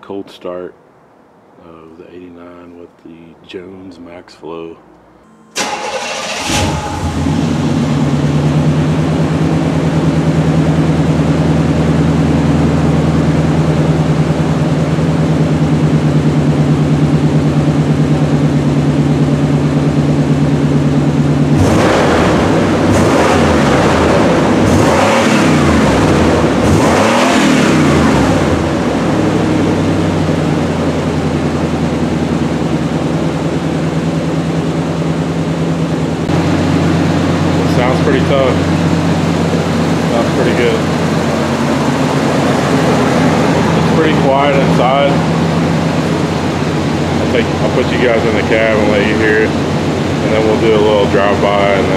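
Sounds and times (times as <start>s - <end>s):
truck engine idling and revving: 5.5s - 51.9s.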